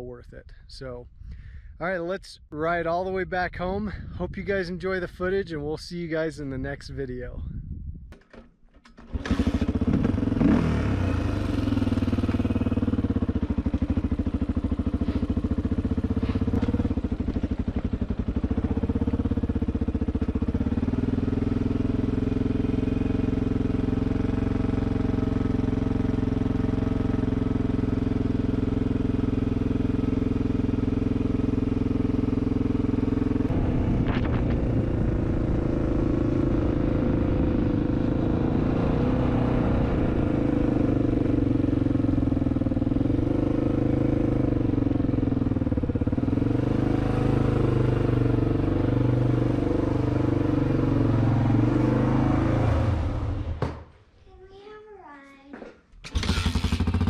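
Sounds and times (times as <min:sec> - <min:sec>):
dirt bike engine running: 0:08.4 - 0:53.9, 0:56.0 - 0:57.0.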